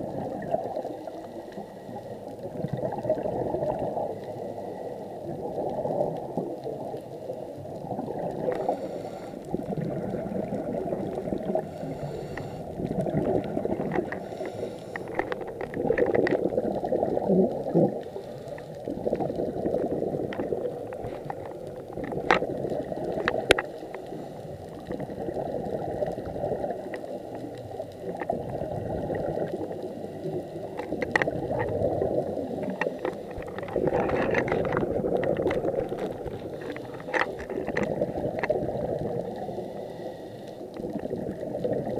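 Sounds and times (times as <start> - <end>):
underwater gurgling and bubbling: 0.0 - 41.9.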